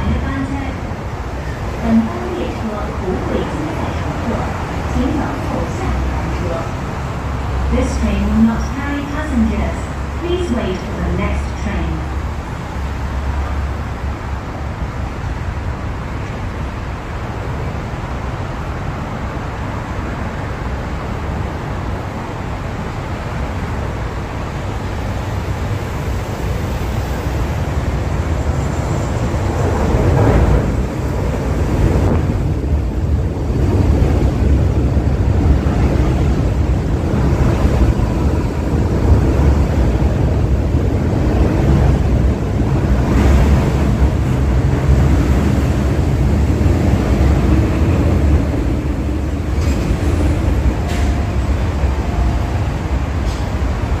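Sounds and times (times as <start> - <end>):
electric train rumbling: 0.0 - 54.0
street traffic: 0.0 - 54.0.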